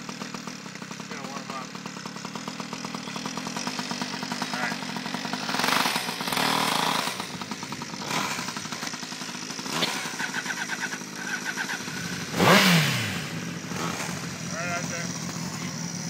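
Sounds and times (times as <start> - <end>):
engine revving: 0.0 - 16.0
sport motorcycle idling: 0.0 - 16.0
two-stroke pocket bike idling: 0.0 - 16.0.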